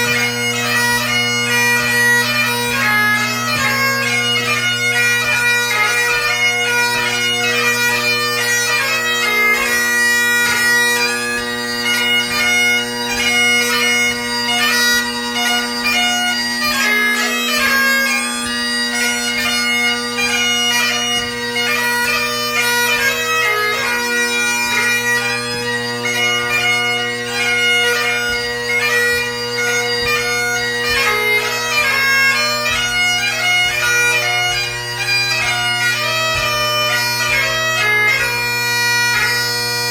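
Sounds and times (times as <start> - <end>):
bagpipe chanter melody: 0.0 - 39.9
bagpipe drones: 0.0 - 39.9.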